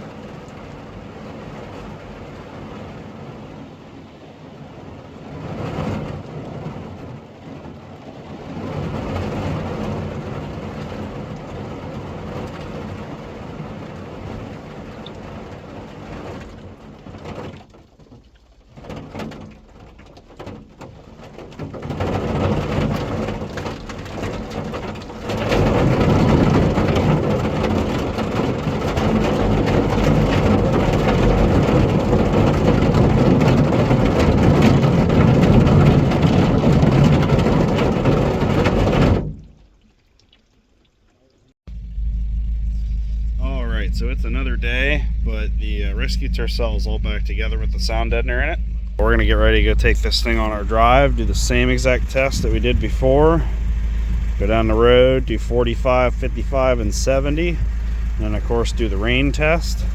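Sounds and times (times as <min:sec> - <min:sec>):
rain drumming on car body: 0:00.0 - 0:59.9.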